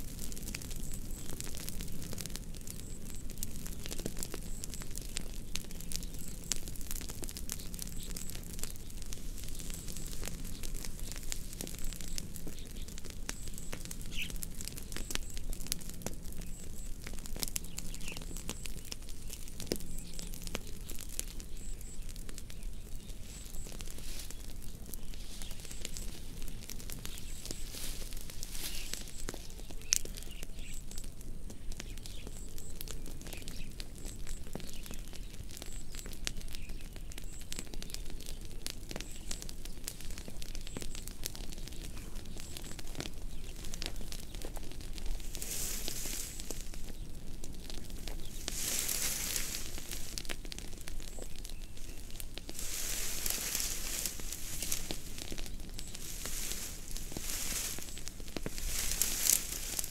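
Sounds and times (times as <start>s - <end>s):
low steady rumble: 0.0s - 32.6s, 41.7s - 59.9s
fire crackling and popping: 0.0s - 59.9s.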